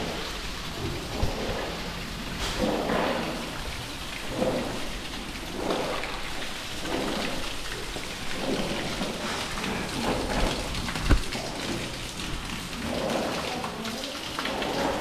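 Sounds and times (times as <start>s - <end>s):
hose spraying water on concrete: 0.0s - 15.0s.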